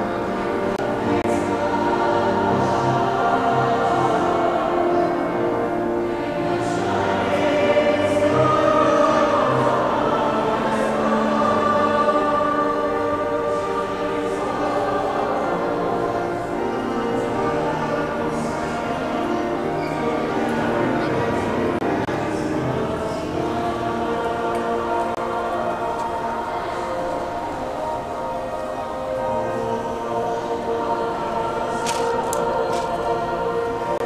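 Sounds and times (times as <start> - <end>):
mixed-voice choir singing: 0.0 - 34.0.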